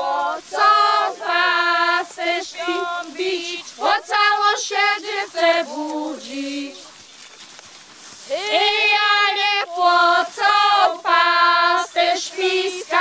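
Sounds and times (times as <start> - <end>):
women singing without instruments: 0.0 - 6.9, 8.3 - 13.0.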